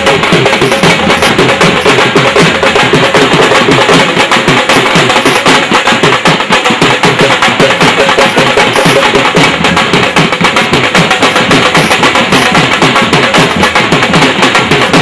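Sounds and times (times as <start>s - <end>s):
barrel drum beaten fast: 0.0s - 15.0s.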